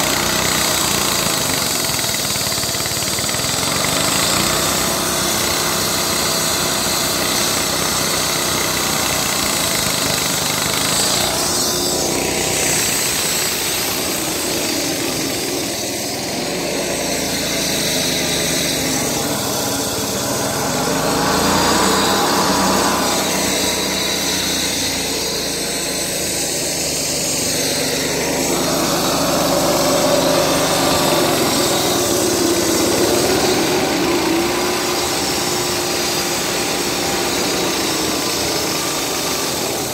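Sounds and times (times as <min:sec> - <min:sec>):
blade grinding concrete: 0:00.0 - 0:39.9
concrete saw engine drone: 0:00.0 - 0:39.9.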